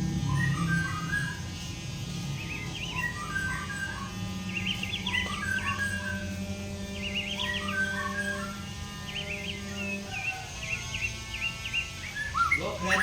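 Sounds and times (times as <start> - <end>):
bird singing trilled phrases: 0.0 - 13.0
steady low hum: 0.0 - 13.0.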